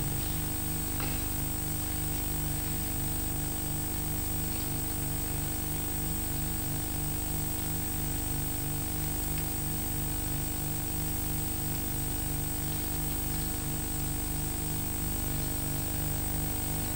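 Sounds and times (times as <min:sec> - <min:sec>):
tape hum and hiss: 0:00.0 - 0:16.9.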